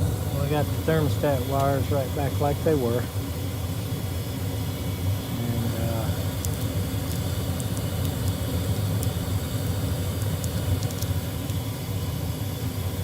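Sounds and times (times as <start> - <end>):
gas furnace humming and rumbling: 0.0 - 13.0.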